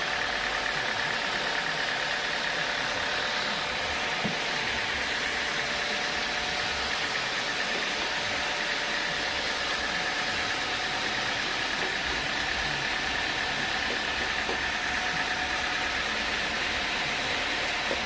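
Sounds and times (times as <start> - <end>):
sawmill machinery hum and whine: 0.0 - 18.0.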